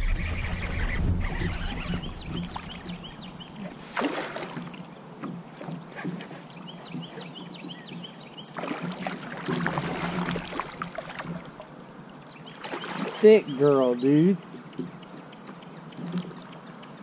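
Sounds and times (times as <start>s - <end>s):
bird chirping: 0.0s - 3.9s, 4.8s - 10.6s, 12.2s - 17.0s
water splashing: 0.0s - 13.8s.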